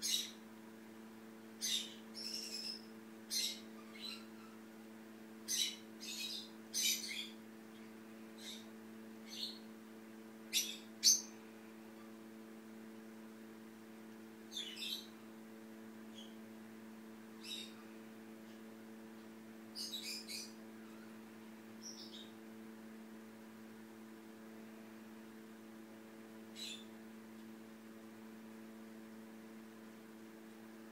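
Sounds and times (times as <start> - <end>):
electrical hum: 0.0 - 30.9.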